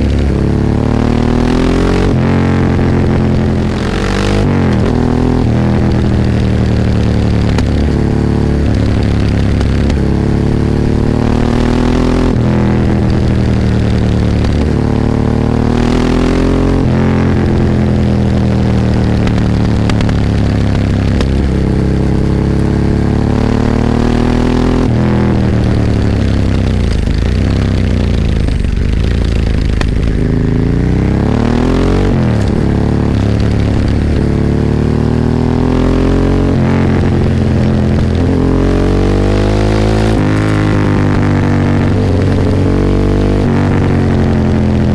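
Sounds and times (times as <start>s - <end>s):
motorcycle engine revving through gears: 0.0s - 44.9s.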